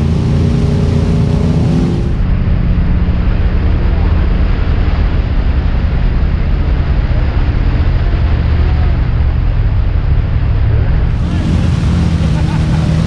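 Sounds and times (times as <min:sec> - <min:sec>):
atv engine running under load: 0:00.0 - 0:13.0.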